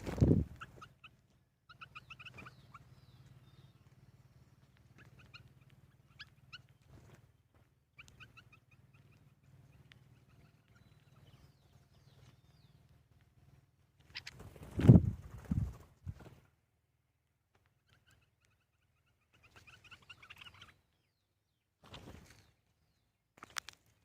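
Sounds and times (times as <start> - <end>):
faint bird chirps: 0.3 - 14.5, 17.6 - 23.6.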